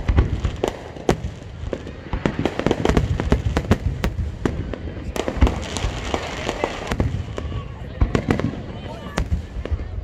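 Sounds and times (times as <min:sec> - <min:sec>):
fireworks bangs and crackling: 0:00.0 - 0:10.0.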